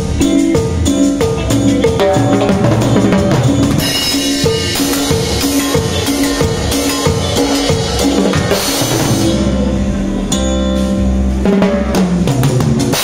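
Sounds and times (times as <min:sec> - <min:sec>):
band music with live drums: 0:00.0 - 0:13.0.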